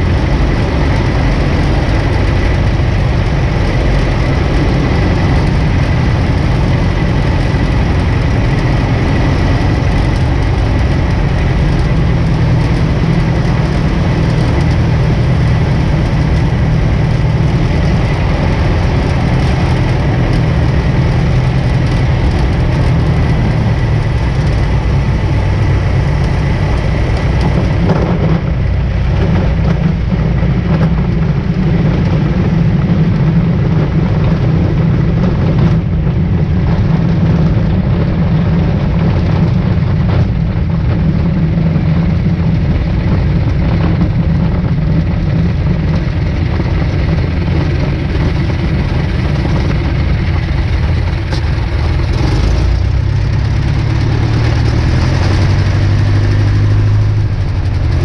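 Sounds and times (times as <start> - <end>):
small plane engine droning: 0.0 - 58.0.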